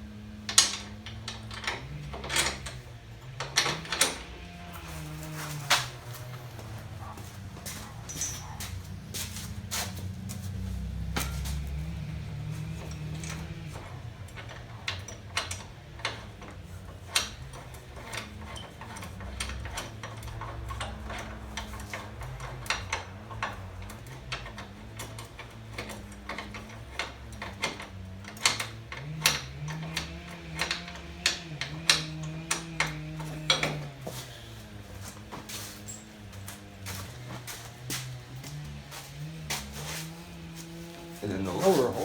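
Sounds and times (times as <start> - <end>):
hand tools clicking on metal: 0.0 - 42.0.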